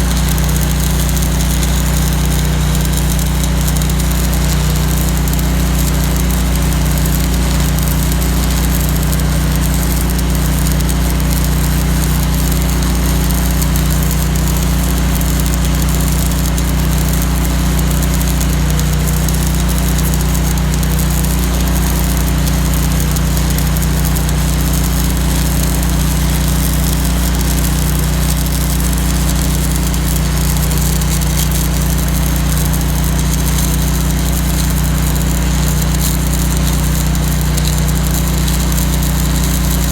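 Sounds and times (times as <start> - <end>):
welding arc crackling and hissing: 0.0 - 39.9.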